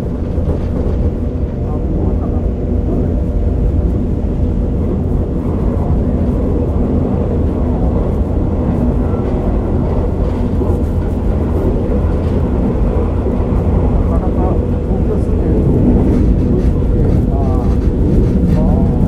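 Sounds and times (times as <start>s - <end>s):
muffled diesel railcar rumble: 0.0s - 19.0s.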